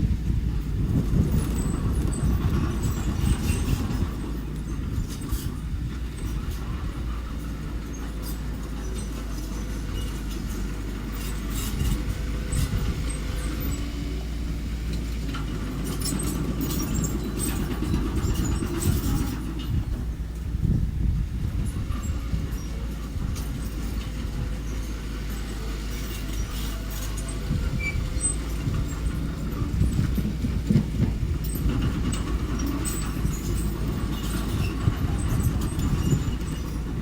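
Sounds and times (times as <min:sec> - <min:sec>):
bulldozer engine rumbling: 0:00.0 - 0:37.0
metallic track clanks: 0:00.2 - 0:37.0.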